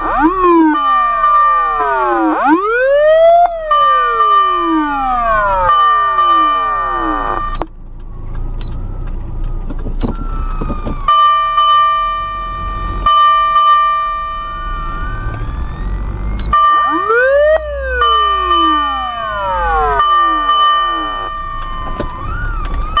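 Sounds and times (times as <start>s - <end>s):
electronic siren tones: 0.0s - 7.8s, 8.6s - 23.0s
vehicle low rumble: 0.0s - 23.0s.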